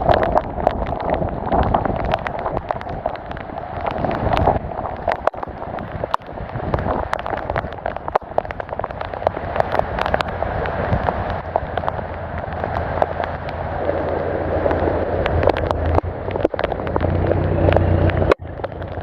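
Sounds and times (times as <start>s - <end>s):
low rumble: 0.0s - 19.0s
rain falling: 0.0s - 19.0s
raindrops tapping: 0.0s - 19.0s.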